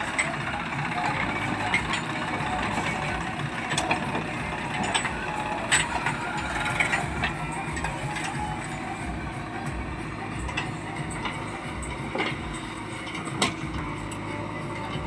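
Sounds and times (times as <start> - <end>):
diesel engine running: 0.0 - 15.0
metallic clanks: 0.0 - 15.0.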